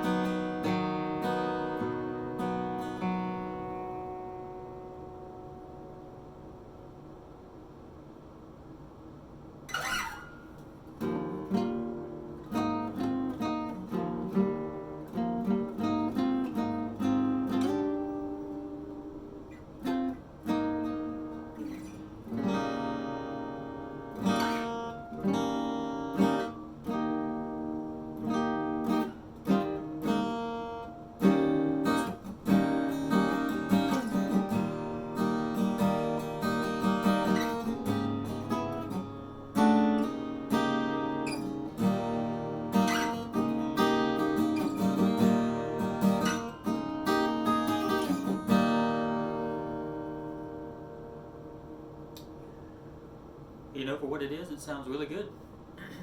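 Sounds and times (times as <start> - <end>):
acoustic guitar playing: 0.0 - 8.3, 9.4 - 54.1.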